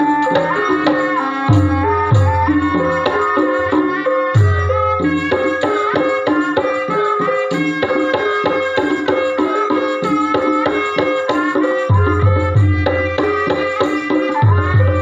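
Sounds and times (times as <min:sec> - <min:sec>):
hand drums: 0:00.0 - 0:15.0
metallophones playing fast melody: 0:00.0 - 0:15.0.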